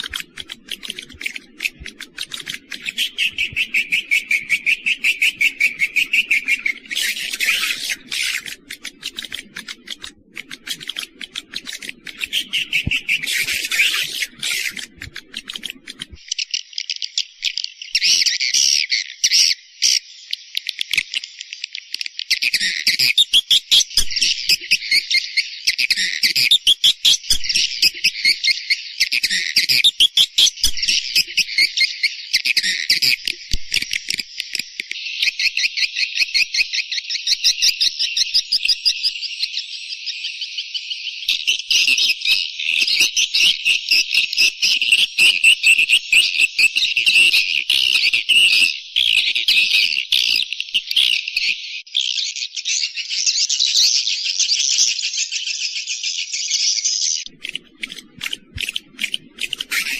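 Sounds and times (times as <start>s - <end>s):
high bird chirping and twittering: 0.0s - 20.5s, 22.2s - 59.9s.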